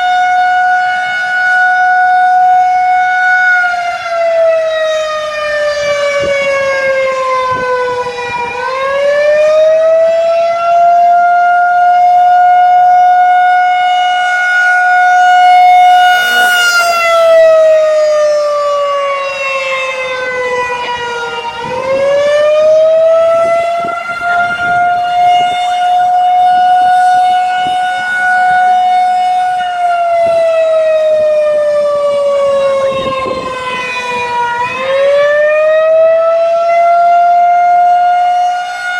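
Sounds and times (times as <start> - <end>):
tornado siren wailing: 0.0 - 38.9.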